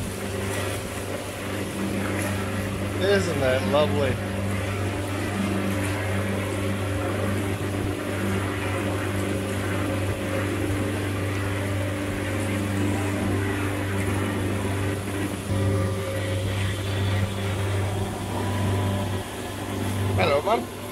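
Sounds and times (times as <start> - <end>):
boat engine droning: 0.0 - 20.9
boat wake rushing: 0.0 - 20.9.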